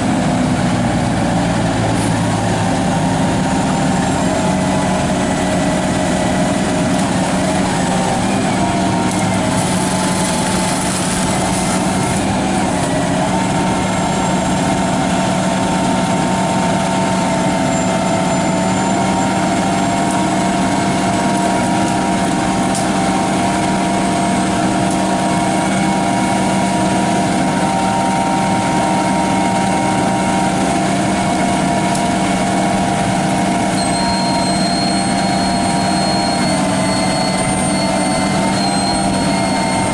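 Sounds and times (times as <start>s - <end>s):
large engine running steadily: 0.0s - 39.9s.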